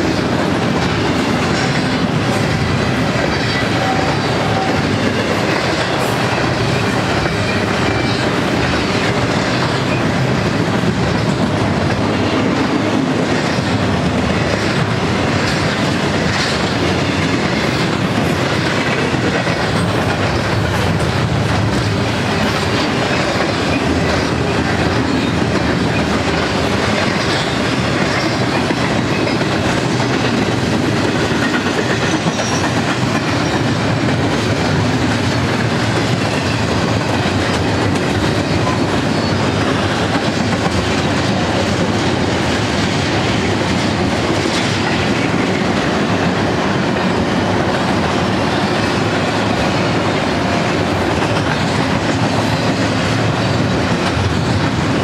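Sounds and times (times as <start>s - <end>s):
steel wheels rolling on rails: 0.0s - 55.0s.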